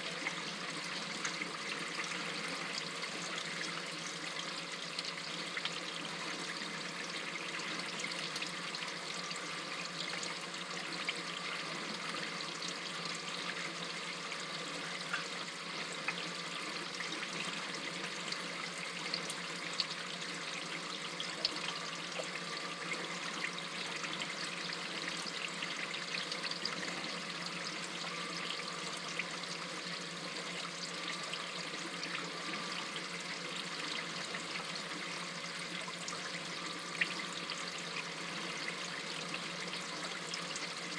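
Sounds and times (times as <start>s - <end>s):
small drip-like ticks: 0.0s - 40.9s
water trickling and splashing: 0.0s - 40.9s.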